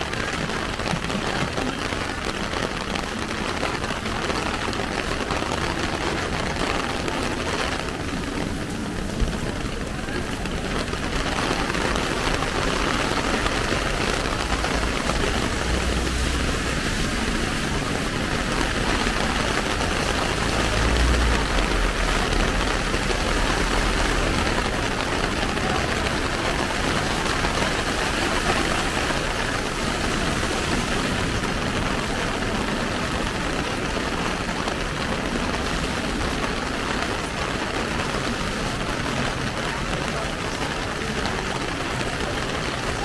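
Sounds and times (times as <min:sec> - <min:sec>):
heavy rain on umbrella: 0:00.0 - 0:43.0.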